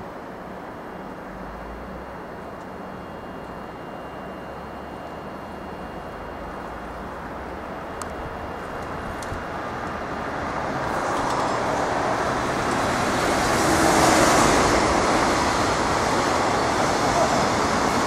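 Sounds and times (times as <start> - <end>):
electric locomotive passing: 0.0 - 18.0.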